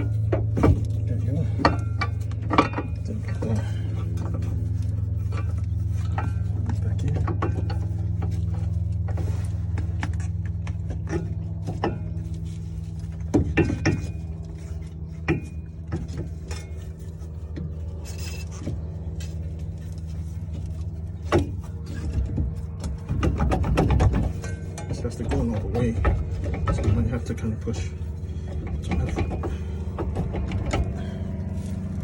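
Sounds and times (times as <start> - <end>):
metal clunks and knocks: 0.0 - 12.4, 13.1 - 17.7, 20.6 - 31.9
steady low hum: 0.0 - 32.0.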